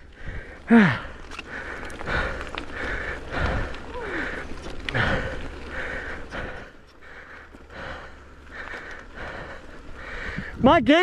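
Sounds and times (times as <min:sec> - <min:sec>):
man breathing hard: 0:00.0 - 0:10.6.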